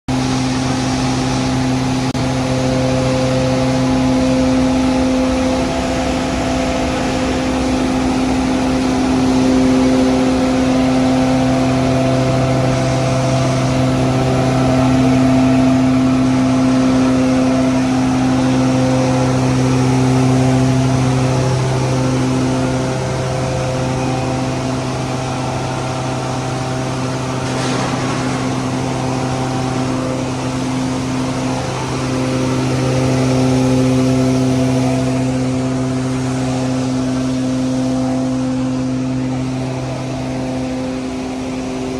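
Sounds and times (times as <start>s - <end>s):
feed grinder machine grinding: 0.1s - 41.9s.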